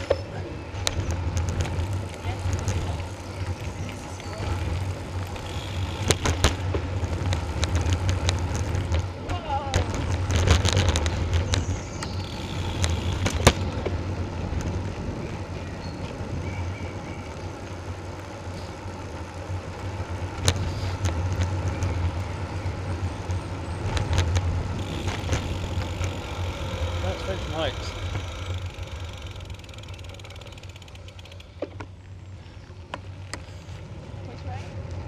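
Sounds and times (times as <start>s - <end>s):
wind and road noise rumble: 0.0s - 35.0s.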